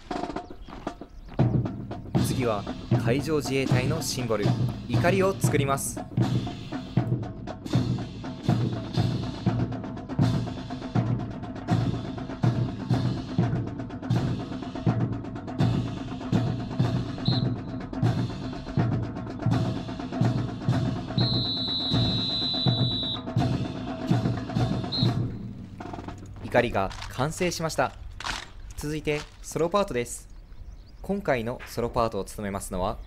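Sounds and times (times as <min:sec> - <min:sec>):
marching drum corps cadence: 0:00.0 - 0:30.0.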